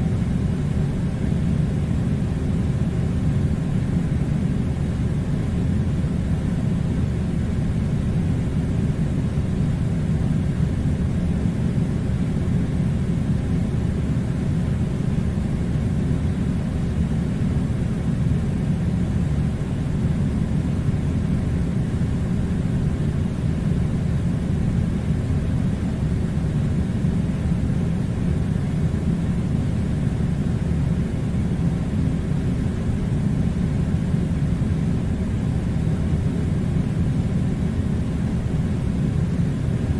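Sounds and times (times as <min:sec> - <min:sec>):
air conditioner humming: 0:00.0 - 0:39.9.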